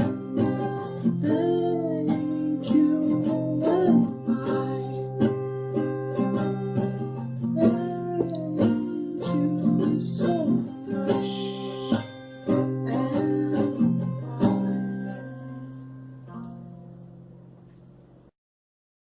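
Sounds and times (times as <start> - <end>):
acoustic guitar plucked and strummed: 0.0 - 18.3.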